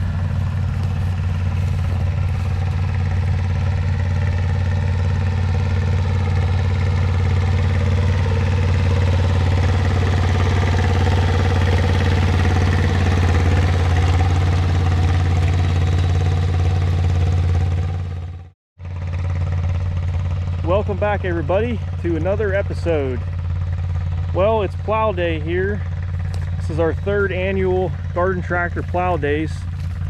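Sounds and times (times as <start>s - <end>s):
small tractor engine running: 0.0s - 30.0s.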